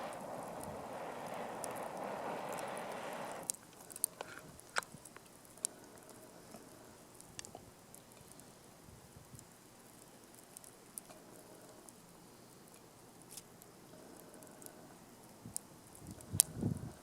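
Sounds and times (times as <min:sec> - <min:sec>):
campfire crackling and popping: 0:00.0 - 0:17.0
steady rushing hiss: 0:00.0 - 0:17.0.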